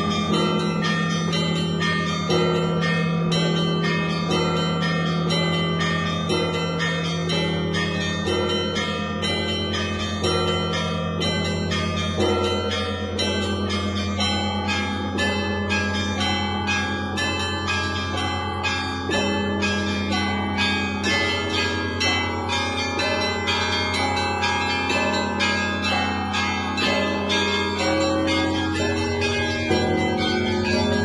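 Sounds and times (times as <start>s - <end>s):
low hum of large bell: 0.0s - 31.0s
small church bells ringing fast: 0.0s - 31.0s.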